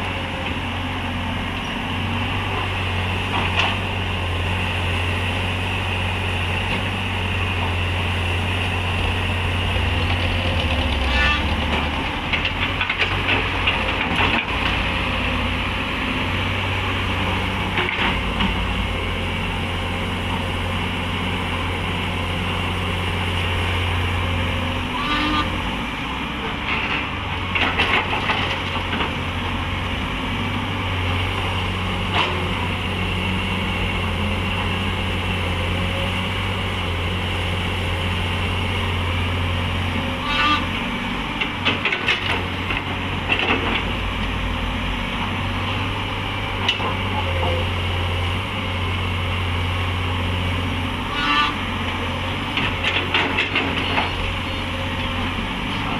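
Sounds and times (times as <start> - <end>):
heavy diesel engines running: 0.0 - 55.9.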